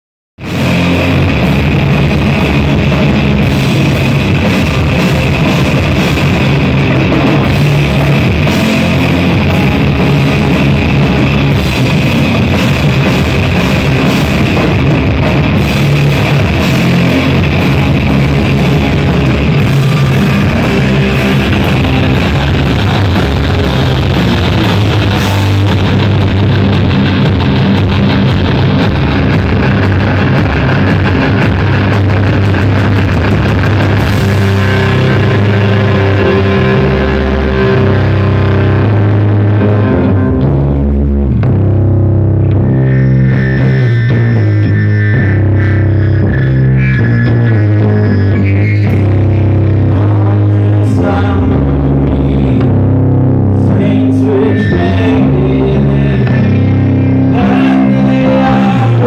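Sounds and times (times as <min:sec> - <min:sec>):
drum kit: 0:00.4 - 0:59.0
electric guitars: 0:00.4 - 0:59.0.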